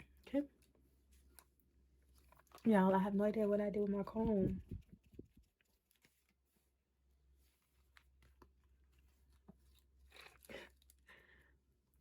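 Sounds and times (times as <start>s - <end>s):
soft rustle: 0.4s - 11.0s.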